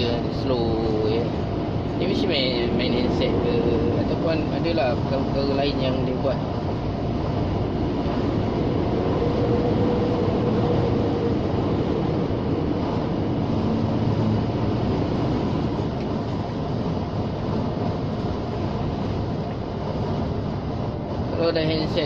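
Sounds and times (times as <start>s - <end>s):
lorry diesel engine drone: 0.0s - 22.0s.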